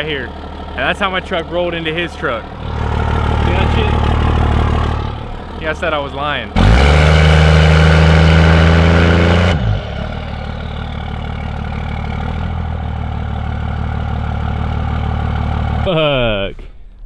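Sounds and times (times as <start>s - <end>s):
diesel truck engine revving and idling: 0.0s - 17.0s.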